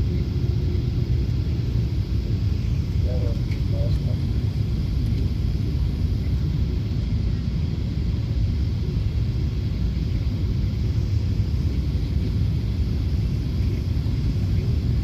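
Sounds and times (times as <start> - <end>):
airliner low rumble: 0.0 - 15.0.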